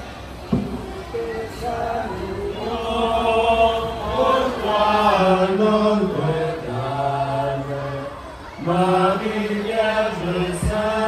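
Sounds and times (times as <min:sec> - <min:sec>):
singing a slow hymn: 0:00.5 - 0:11.0.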